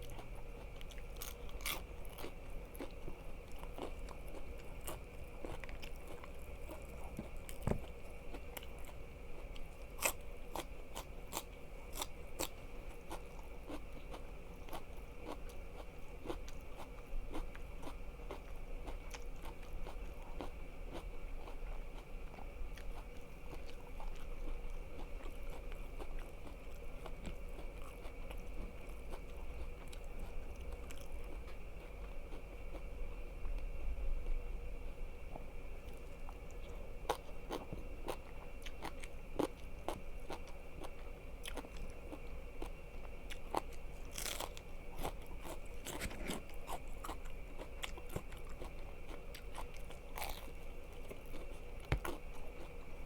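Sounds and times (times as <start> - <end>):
crunching and chewing crisp food: 0.0 - 53.0.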